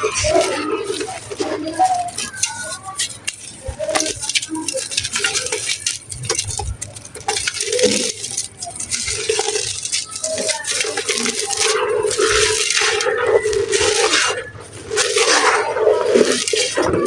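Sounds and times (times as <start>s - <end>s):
dry clay crumbling: 0.0s - 17.0s.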